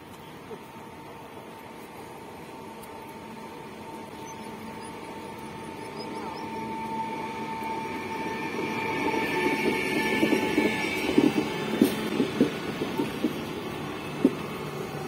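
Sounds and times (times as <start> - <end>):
electric train whine: 0.0 - 15.0.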